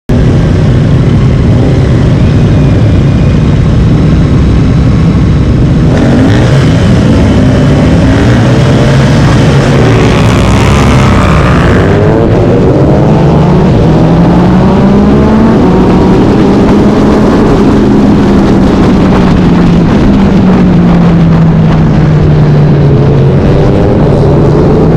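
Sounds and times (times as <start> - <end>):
racing motorcycle engine revving: 0.1 - 24.9.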